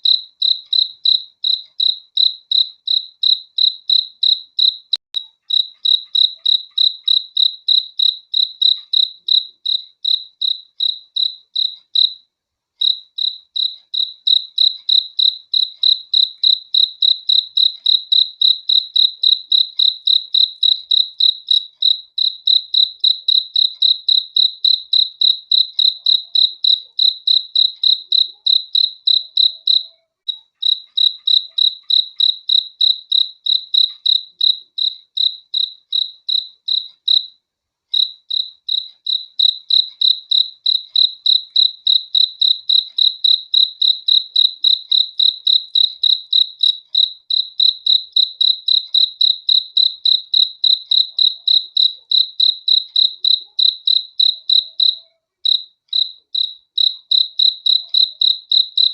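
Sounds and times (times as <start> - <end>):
cricket chirping: 0.0 - 12.2, 12.8 - 58.9.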